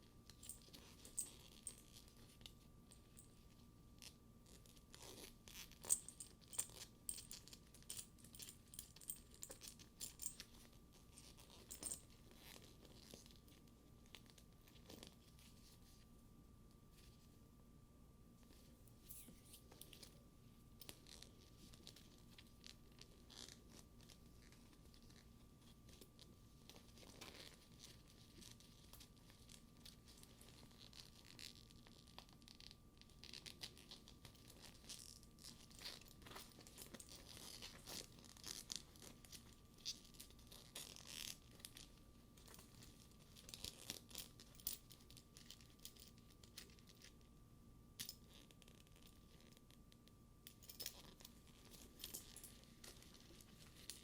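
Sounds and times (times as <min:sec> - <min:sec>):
crackly rubbing of leather bag: 0:00.0 - 0:16.1, 0:20.9 - 0:47.3, 0:48.2 - 0:50.2, 0:50.8 - 0:54.0.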